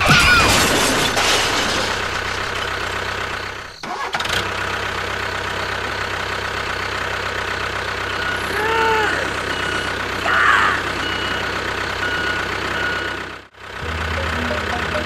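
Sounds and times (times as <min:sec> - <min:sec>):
tractor engine running: 0:00.8 - 0:15.0.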